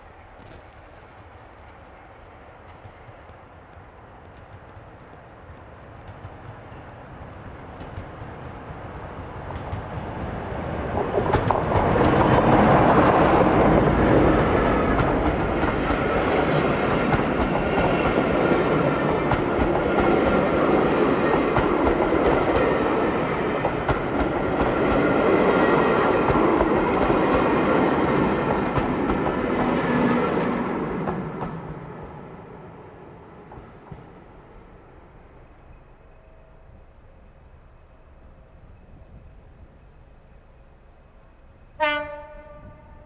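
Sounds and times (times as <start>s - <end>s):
passenger train passing: 0.0s - 43.0s.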